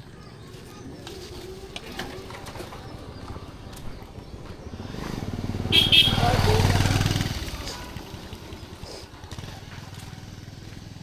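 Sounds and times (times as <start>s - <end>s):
motorcycle engine approaching: 0.0s - 11.0s.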